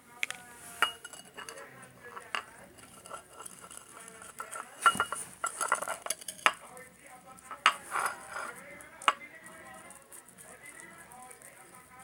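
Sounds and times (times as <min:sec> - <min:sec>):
stirrer scraping bowl: 0:00.6 - 0:12.0.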